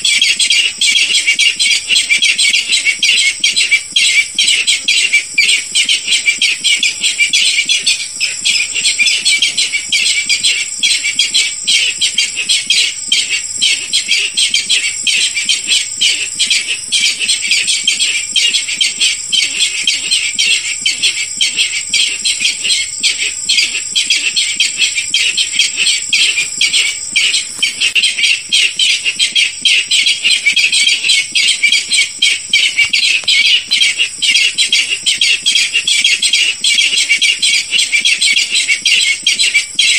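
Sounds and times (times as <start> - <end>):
rail bird calls: 0.0 - 39.9.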